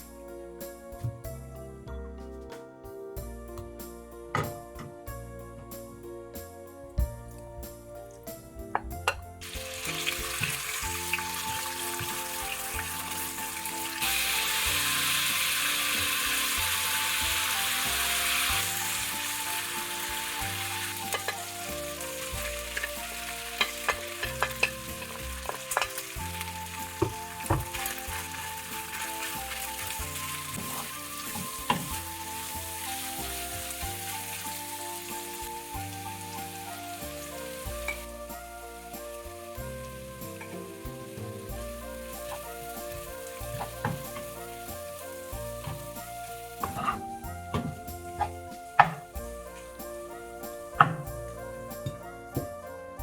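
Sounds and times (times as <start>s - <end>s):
food sizzling in oil: 9.4s - 52.1s.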